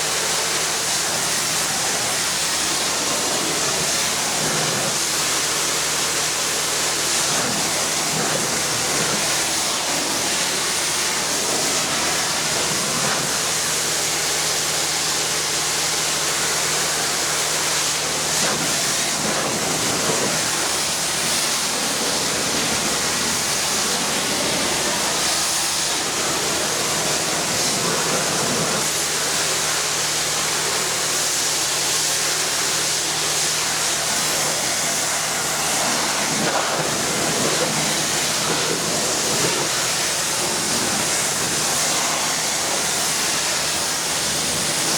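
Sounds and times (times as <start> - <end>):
pressure washer spraying: 0.0 - 44.9.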